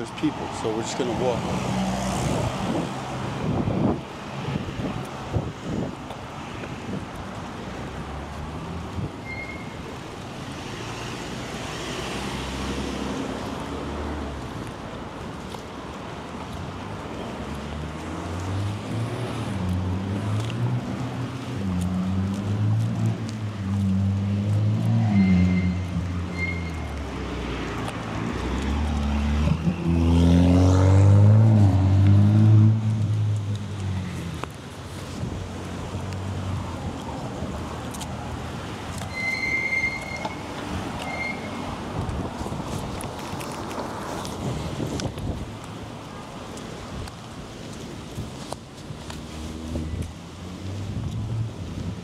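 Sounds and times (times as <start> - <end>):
vehicles passing: 0.0 - 52.0.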